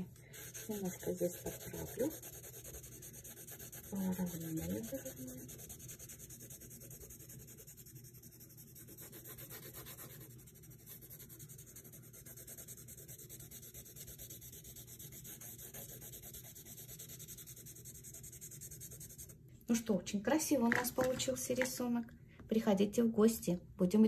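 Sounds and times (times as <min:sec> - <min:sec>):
pencil shading on paper: 0:00.0 - 0:19.4.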